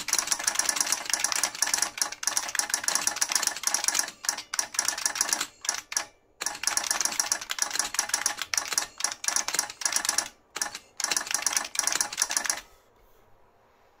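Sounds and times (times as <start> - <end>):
fast typing on clicky keyboard: 0.0 - 12.6.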